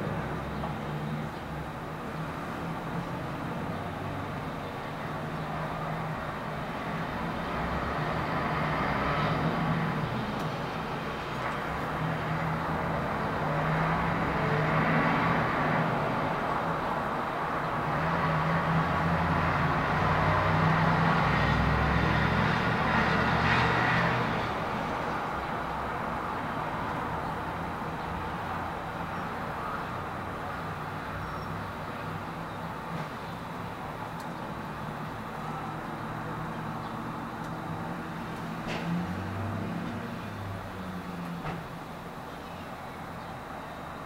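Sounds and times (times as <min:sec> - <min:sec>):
vehicle rumble and rush: 0:00.0 - 0:44.0.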